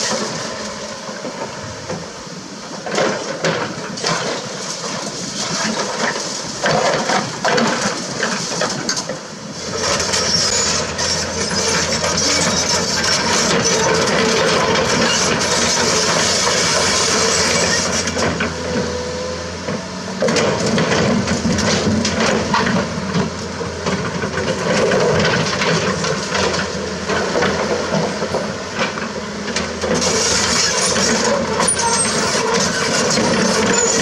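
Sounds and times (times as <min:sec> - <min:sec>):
excavator diesel engine under load: 0:00.0 - 0:34.0.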